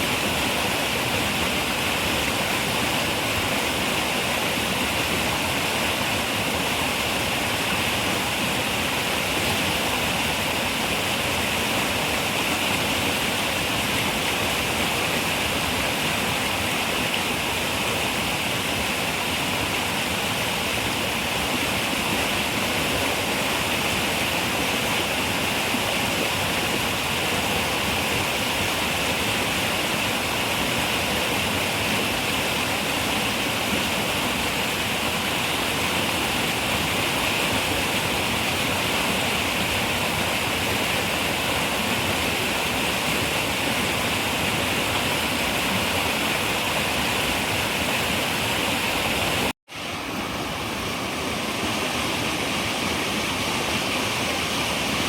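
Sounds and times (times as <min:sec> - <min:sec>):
river water over rocks: 0:00.0 - 0:55.0.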